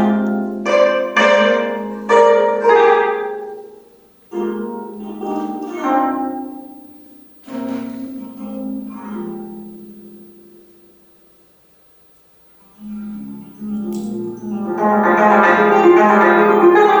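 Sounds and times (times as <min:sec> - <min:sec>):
zither plucked notes: 0:00.0 - 0:10.8, 0:12.6 - 0:17.0.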